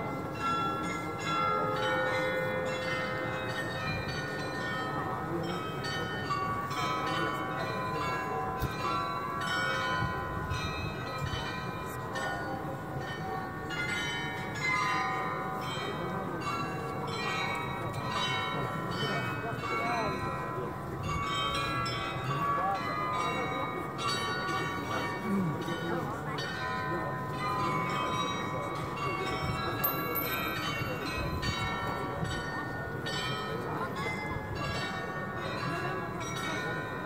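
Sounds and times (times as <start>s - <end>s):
glockenspiel bells playing a tune: 0.0s - 37.0s.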